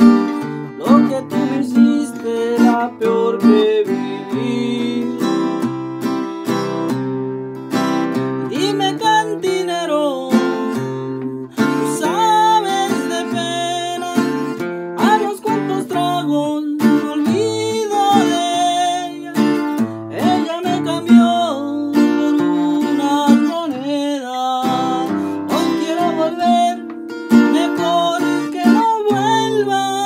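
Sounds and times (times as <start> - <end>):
man singing: 0.0 - 5.7, 8.4 - 30.0
strummed acoustic guitar: 0.0 - 30.0.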